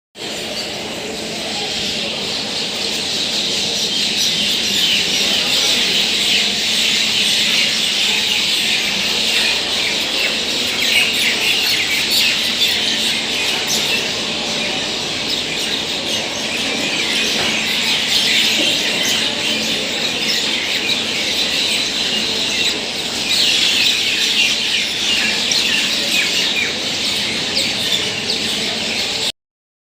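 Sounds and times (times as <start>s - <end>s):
flock of small birds chirping: 0.2s - 29.3s.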